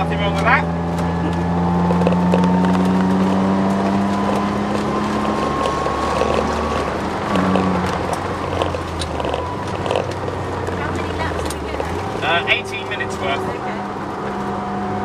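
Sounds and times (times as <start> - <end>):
car engine under power: 0.0 - 15.0.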